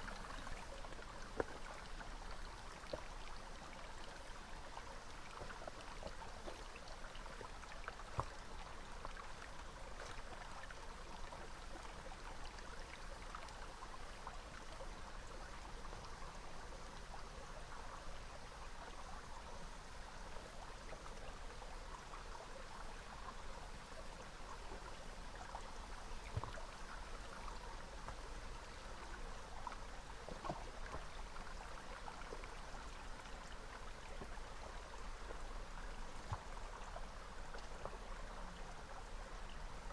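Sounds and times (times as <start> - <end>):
small river flowing: 0.0 - 39.9.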